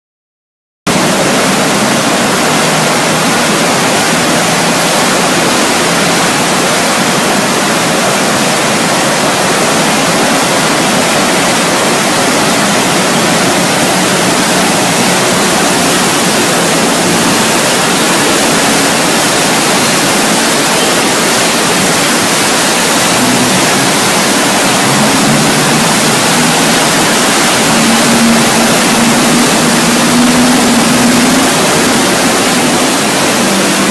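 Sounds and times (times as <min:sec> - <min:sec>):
river water rushing: 0:00.9 - 0:33.9.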